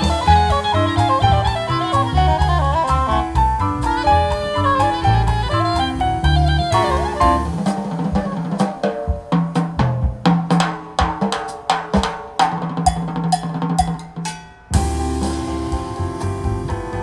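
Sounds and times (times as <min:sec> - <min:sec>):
drum kit solo: 0:00.0 - 0:17.0
jazz band playing: 0:00.0 - 0:17.0.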